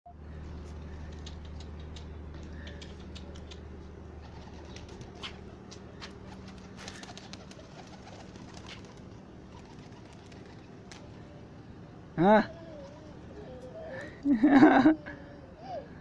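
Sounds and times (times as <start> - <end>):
low steady hum: 0.1 - 16.0
pigeons cooing: 0.9 - 14.2.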